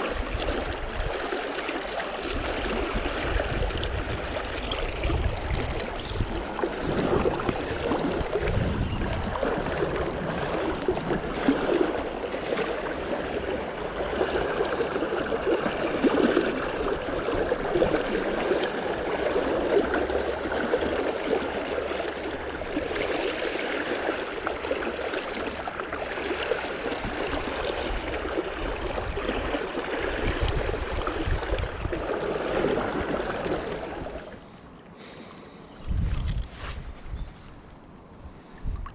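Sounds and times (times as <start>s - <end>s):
stream water rushing: 0.0s - 34.4s.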